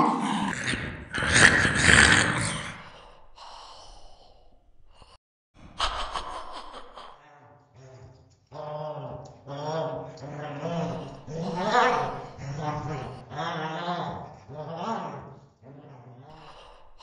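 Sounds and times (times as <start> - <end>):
faint low growl: 0.0 - 17.0.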